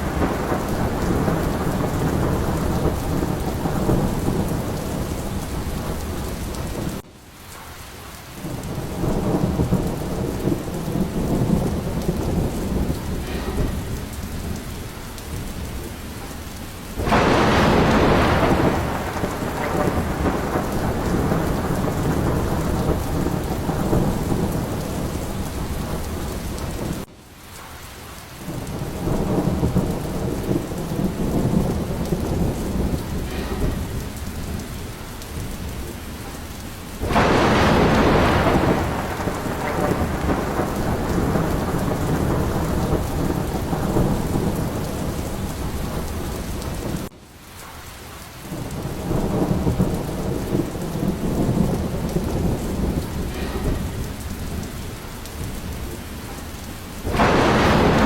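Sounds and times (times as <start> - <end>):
sharp thunderclap: 0.0 - 7.0, 8.4 - 27.1, 28.5 - 47.1, 48.5 - 58.0
low rolling thunder: 0.0 - 7.1, 8.4 - 27.1, 28.4 - 47.1, 48.4 - 58.0
heavy rain: 0.0 - 58.0.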